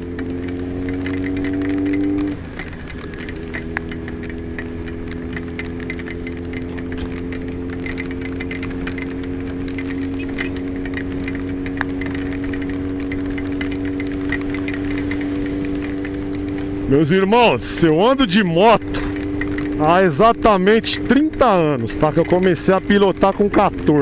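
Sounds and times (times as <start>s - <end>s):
motorcycle engine cruising: 0.0s - 24.0s
rain ticking: 0.0s - 24.0s.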